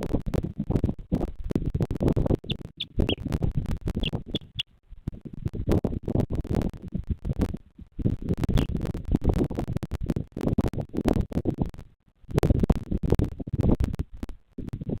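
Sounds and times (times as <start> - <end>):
scratching and crackling at microphone: 0.0 - 15.0.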